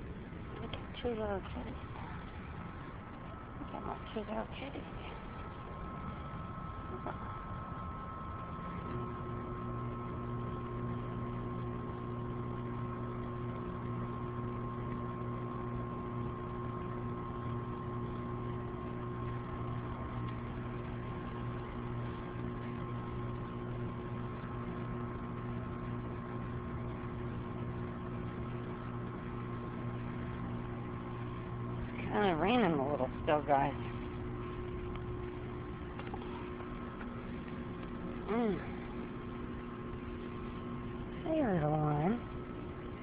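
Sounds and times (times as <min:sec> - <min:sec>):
constant hiss: 0:00.0 - 0:43.0
mechanical hum: 0:00.0 - 0:43.0.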